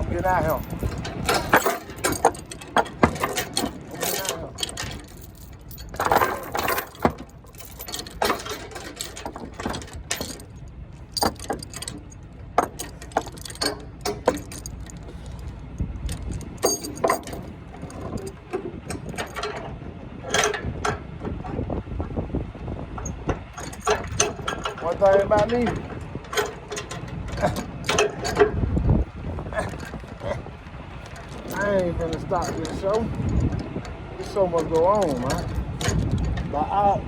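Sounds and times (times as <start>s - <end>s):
chains clanking and ratcheting: 0.0s - 21.0s, 23.0s - 37.0s
low steady rumble: 0.0s - 37.0s.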